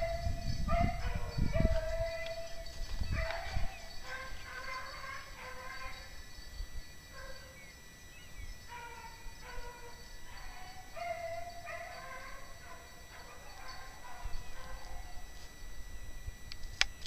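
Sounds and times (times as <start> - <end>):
hounds baying: 0.0 - 15.6.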